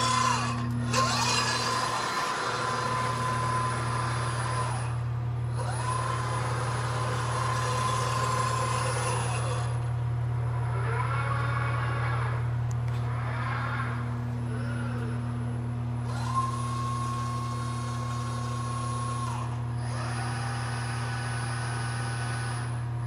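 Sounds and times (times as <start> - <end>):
robot servo drives whining: 0.0 - 9.9, 10.5 - 15.4, 16.0 - 22.8
steady low hum: 0.0 - 23.0.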